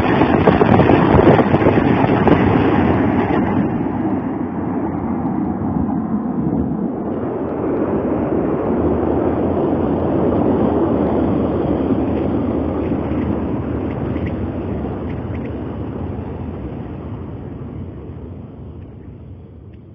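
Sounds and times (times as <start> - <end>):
rocket salvo roar: 0.0 - 19.9.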